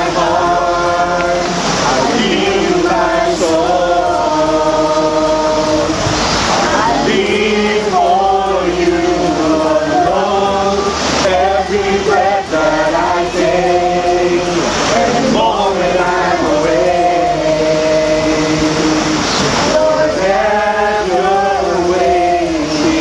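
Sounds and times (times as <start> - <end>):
group singing a worship song: 0.0 - 23.0.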